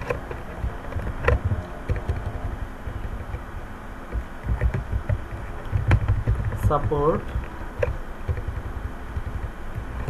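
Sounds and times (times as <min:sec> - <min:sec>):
low uneven rumble: 0:00.0 - 0:10.0.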